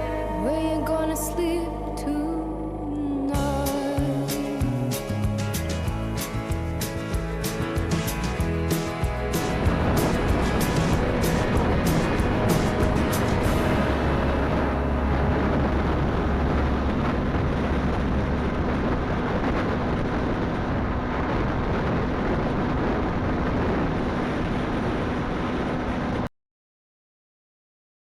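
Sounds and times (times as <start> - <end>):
motorcycle engine rumble: 0.0 - 26.2
road noise: 0.0 - 26.3
wind: 0.0 - 26.3.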